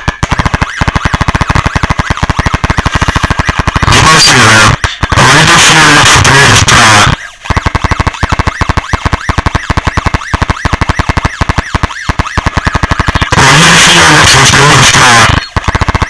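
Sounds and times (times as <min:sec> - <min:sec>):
loud harsh noise: 0:00.0 - 0:16.0
pulsing electronic siren: 0:00.0 - 0:16.0.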